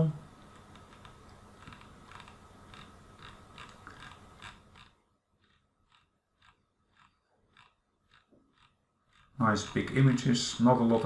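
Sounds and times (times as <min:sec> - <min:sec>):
mouse scroll wheel clicking: 0:00.4 - 0:11.0.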